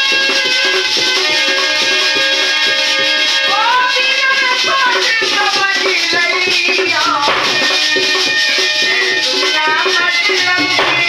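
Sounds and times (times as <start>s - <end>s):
rattling hand percussion: 0.0s - 11.0s
sliding melody line: 0.0s - 11.0s.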